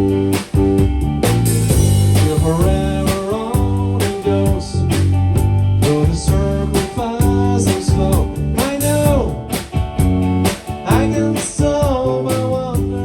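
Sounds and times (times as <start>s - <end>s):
rock guitar: 0.0s - 13.0s
steady drum beat: 0.0s - 13.0s.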